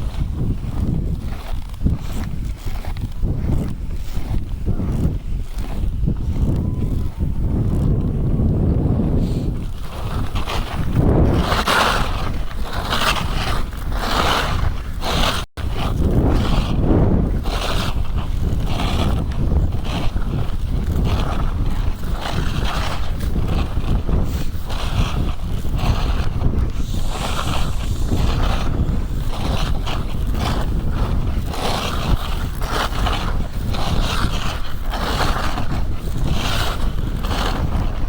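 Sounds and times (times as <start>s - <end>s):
skis scraping over snow: 0.0s - 38.0s
wind on microphone: 0.0s - 38.0s.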